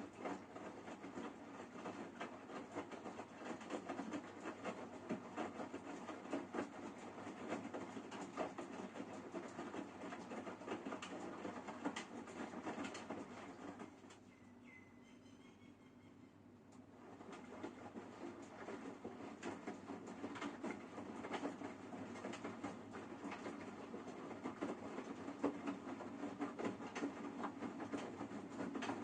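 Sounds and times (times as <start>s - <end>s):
washing machine churning: 0.0s - 15.0s, 16.4s - 29.0s.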